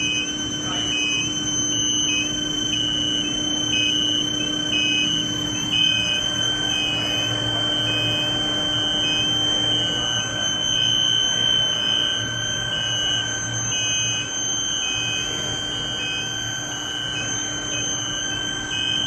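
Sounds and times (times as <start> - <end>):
high-pitched electrical whine: 0.0 - 19.0
machine hum: 0.0 - 19.0.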